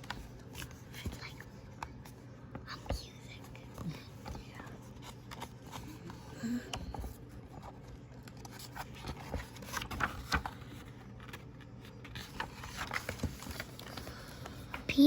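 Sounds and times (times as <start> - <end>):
picture book rustling: 0.0 - 15.0.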